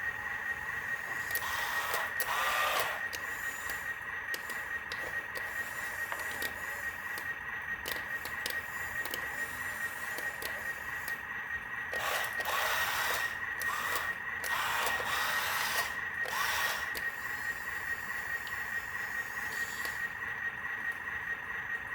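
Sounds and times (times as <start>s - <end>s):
toy truck motor whining: 0.0s - 20.2s.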